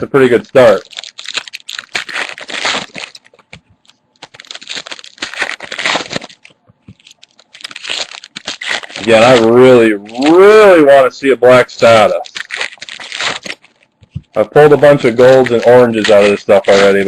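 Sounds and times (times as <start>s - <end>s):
cards rustling: 0.0s - 17.0s
foil wrappers crinkling and tearing: 0.0s - 17.0s.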